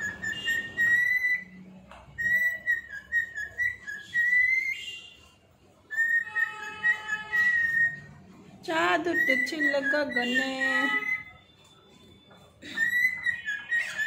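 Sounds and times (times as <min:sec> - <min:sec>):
cockatiel whistling a tune: 0:00.0 - 0:05.3, 0:05.9 - 0:08.2, 0:09.1 - 0:14.0.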